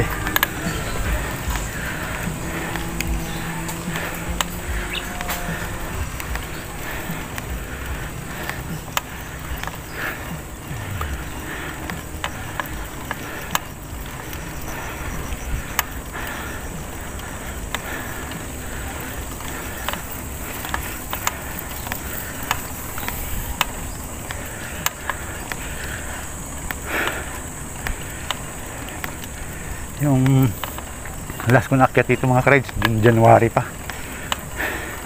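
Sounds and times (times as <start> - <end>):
high insect buzz: 0.0 - 31.5
sharp clicks from bike: 0.0 - 35.0
wind and bike tyre noise: 0.0 - 35.0.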